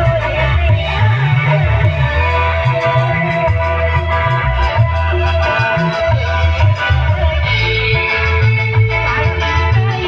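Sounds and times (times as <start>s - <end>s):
electric guitar melody: 0.0s - 10.0s
strong bass line: 0.0s - 10.0s.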